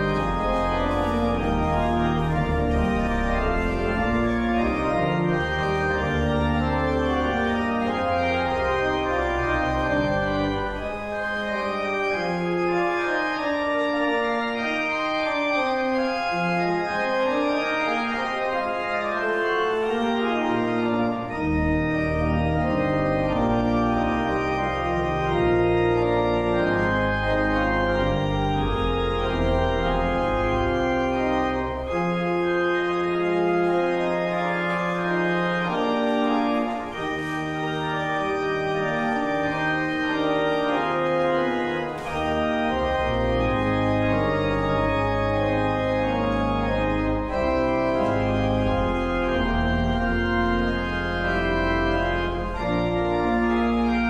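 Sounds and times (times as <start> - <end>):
deep organ pedal bass notes: 0.0 - 54.0
organ playing sustained chords: 0.0 - 54.0.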